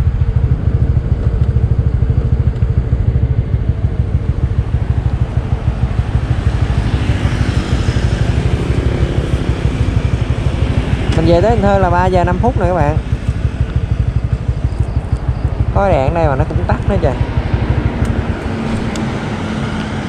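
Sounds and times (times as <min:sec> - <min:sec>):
low rumble of riding noise: 0:00.0 - 0:20.0
small motorcycle engine: 0:00.0 - 0:20.0.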